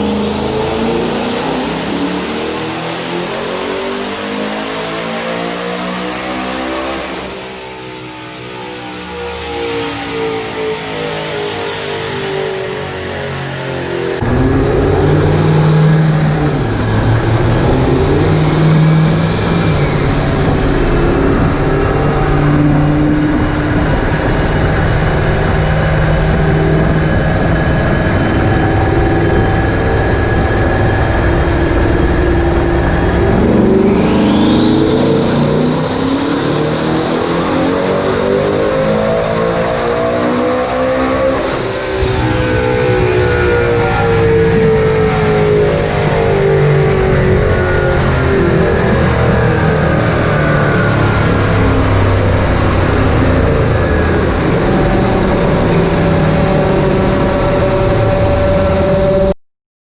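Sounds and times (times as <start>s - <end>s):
car engine revving: 0.0s - 59.4s
turbo whine: 0.0s - 59.4s.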